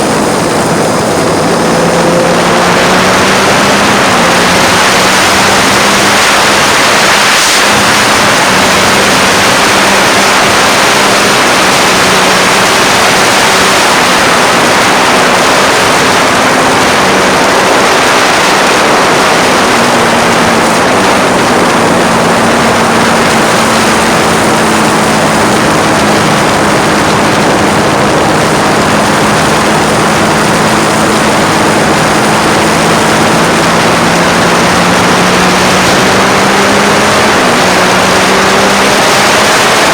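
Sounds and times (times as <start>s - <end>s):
motorcycle engine running: 0.0s - 39.9s
wind roar on microphone: 0.0s - 39.9s.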